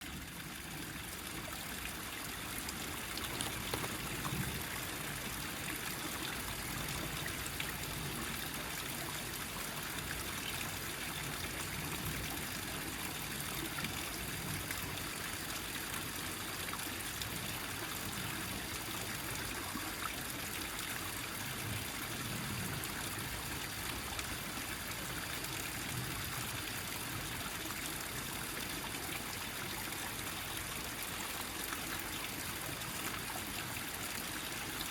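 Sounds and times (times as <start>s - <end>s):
stream trickling over rocks: 0.0s - 34.9s.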